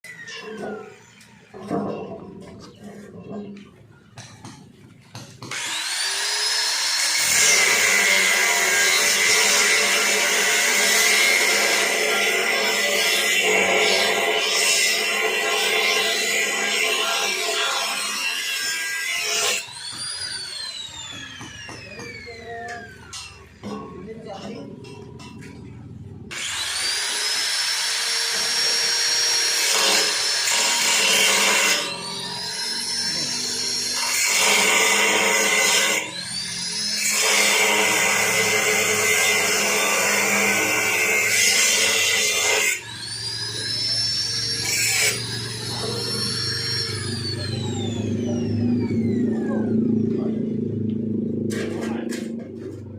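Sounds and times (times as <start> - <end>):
angle grinder cutting metal: 5.4 - 23.9, 26.3 - 50.3.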